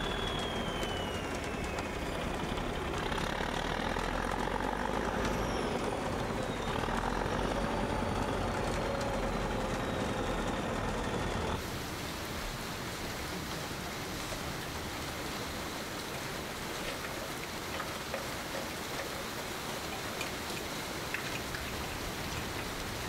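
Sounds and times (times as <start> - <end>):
bulldozer diesel engine rumbling: 0.0 - 23.0.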